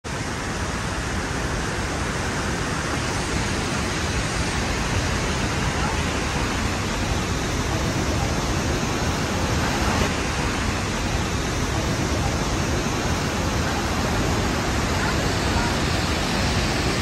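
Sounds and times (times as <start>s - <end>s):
waterfall rushing into gorge: 0.1s - 17.0s.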